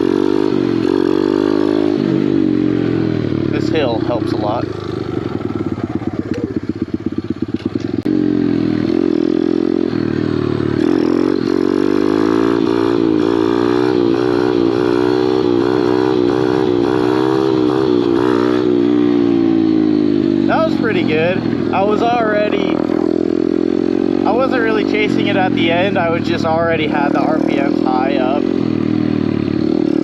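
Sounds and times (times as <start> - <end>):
pit bike engine revving: 0.0 - 30.0.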